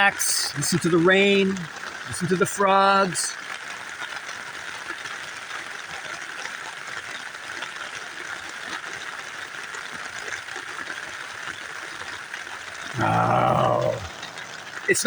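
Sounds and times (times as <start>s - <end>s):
rain pattering on a tent: 0.0s - 15.0s.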